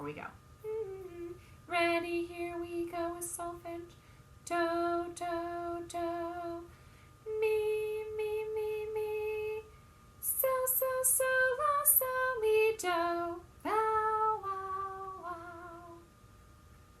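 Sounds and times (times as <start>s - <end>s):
woman singing a cappella: 0.6s - 16.1s.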